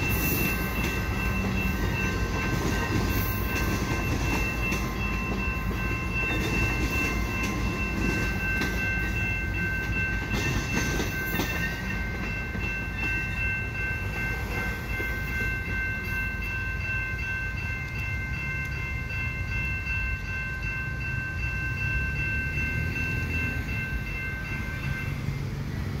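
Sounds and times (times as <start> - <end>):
crossing warning bell ringing: 0.0 - 26.0
train coaches rumbling past: 0.0 - 26.0.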